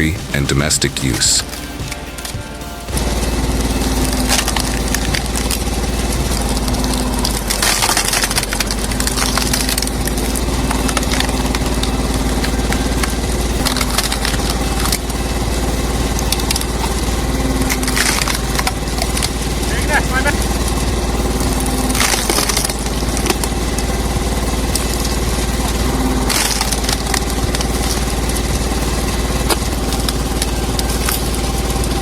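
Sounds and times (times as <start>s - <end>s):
machine engine running: 0.0s - 32.0s.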